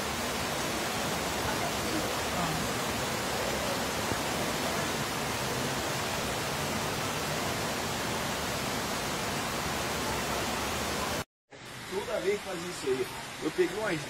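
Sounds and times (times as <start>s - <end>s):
floodwater running: 0.0s - 14.0s
heavy rain on flooded street: 0.0s - 14.0s.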